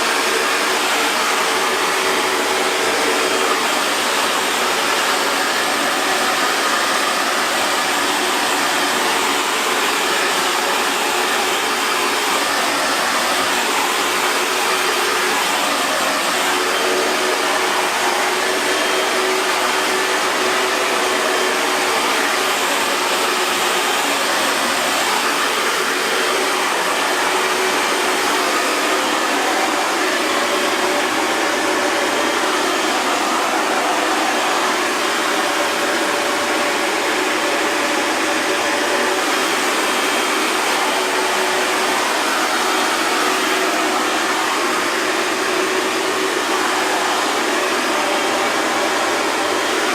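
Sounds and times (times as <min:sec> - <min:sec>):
hair dryer blowing air: 0:00.0 - 0:49.9.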